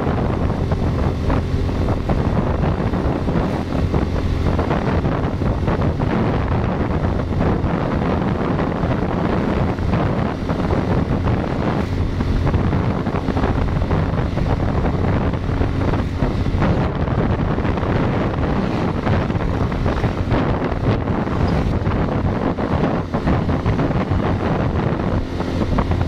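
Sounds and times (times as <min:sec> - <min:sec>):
engine drone: 0:00.0 - 0:26.0
wind buffeting microphone: 0:00.0 - 0:26.0.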